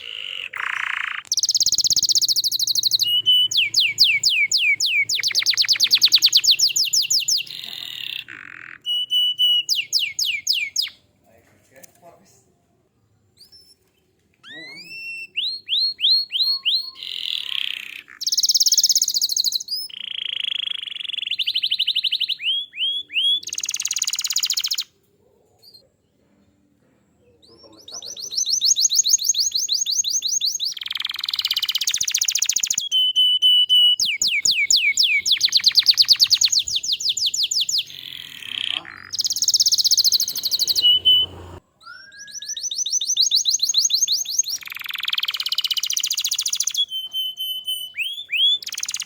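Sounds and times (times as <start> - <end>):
canary singing: 0.0 - 11.1, 13.4 - 25.0, 27.3 - 49.0.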